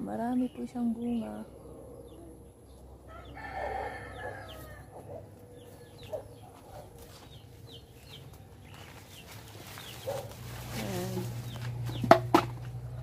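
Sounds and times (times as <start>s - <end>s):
small birds chirping: 0.0s - 13.0s
chickens calling and clucking: 0.9s - 13.0s.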